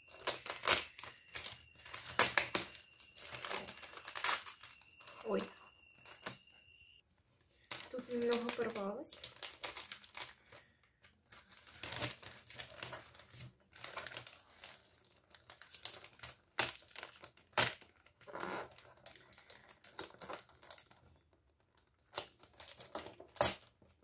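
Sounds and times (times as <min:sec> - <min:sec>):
sharp paper crackles: 0:00.0 - 0:06.4, 0:07.6 - 0:24.0
wrapping paper crinkling and tearing: 0:00.0 - 0:06.4, 0:07.5 - 0:24.0.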